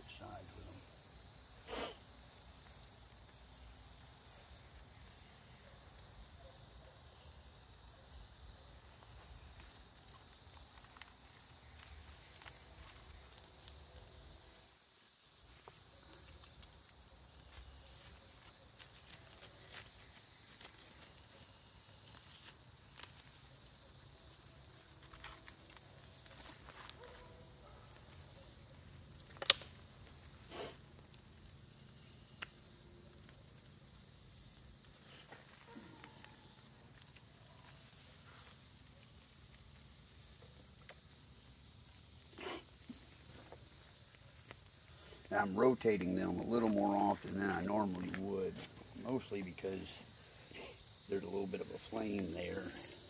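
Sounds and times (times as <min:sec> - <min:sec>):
campfire crackling: 0:00.0 - 0:53.0
loud fire snaps: 0:00.1 - 0:53.0.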